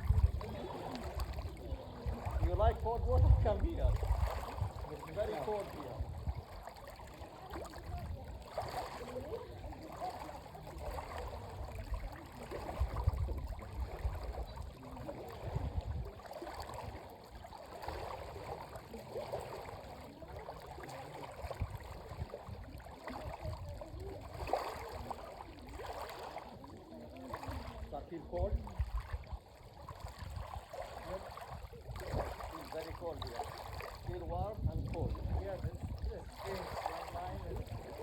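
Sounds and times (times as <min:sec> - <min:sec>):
water lapping and splashing: 0:00.0 - 0:38.0.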